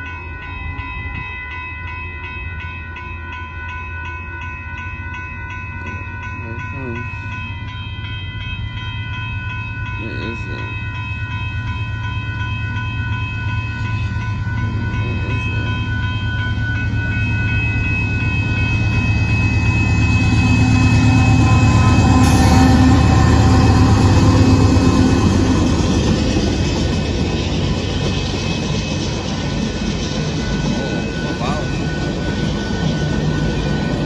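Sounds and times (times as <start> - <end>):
railroad crossing bell ringing: 0.0 - 34.0
diesel locomotive rumbling: 5.4 - 34.0
train cars rolling by: 5.4 - 34.0.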